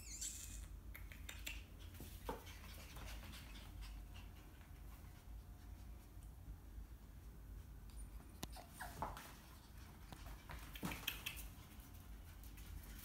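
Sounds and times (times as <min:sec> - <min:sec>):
puppy paws clicking on floor: 0:00.3 - 0:06.4, 0:07.2 - 0:13.0.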